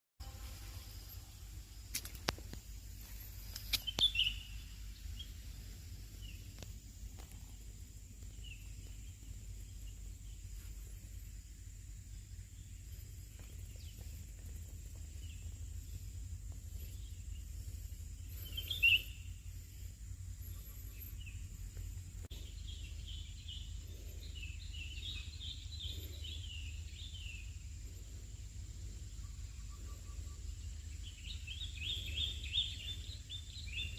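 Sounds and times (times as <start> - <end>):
low outdoor rumble: 0.3 - 33.9
birds chirping: 0.8 - 33.9.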